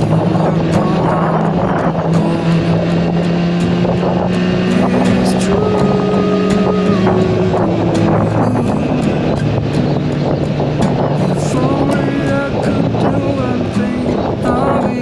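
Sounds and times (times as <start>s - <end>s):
motorcycle engine running: 0.0s - 14.2s
wind noise on microphone: 0.0s - 15.0s.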